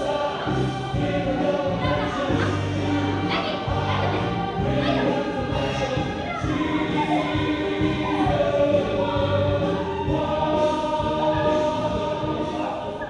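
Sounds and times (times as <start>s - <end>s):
choir singing long held notes: 0.0s - 13.0s.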